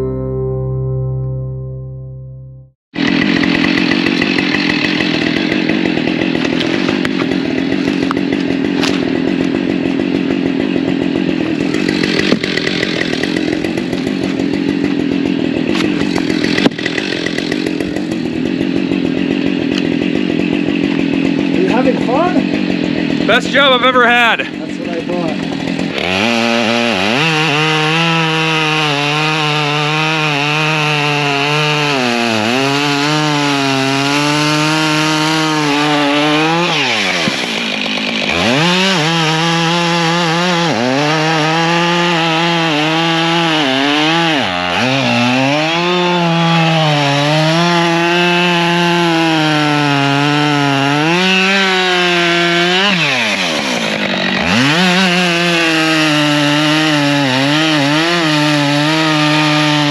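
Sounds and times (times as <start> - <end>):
chainsaw cutting wood: 3.0 - 59.9.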